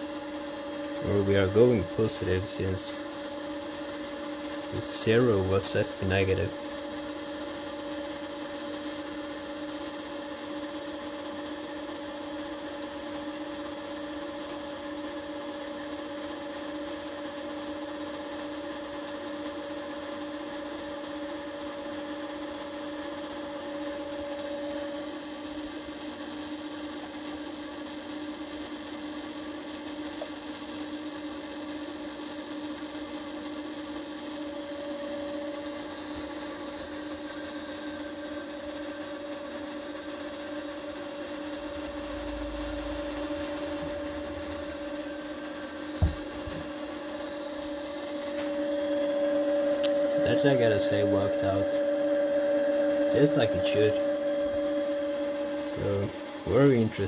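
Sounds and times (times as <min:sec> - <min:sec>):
spindle motor humming and whining: 0:00.0 - 0:57.0.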